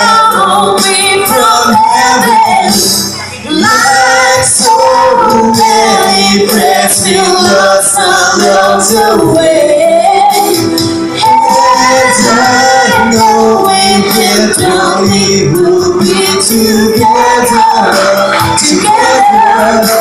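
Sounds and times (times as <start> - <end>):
karaoke backing track: 0.0 - 20.0
woman and man singing duet: 0.0 - 20.0.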